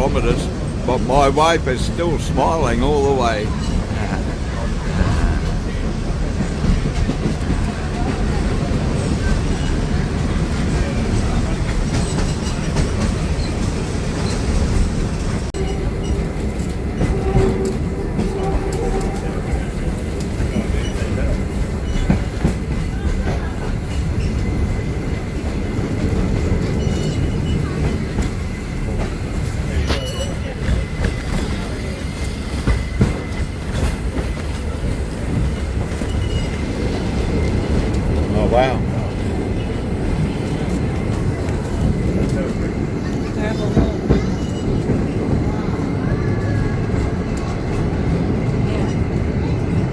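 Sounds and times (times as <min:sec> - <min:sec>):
steam train wheels clattering: 0:00.2 - 0:49.9.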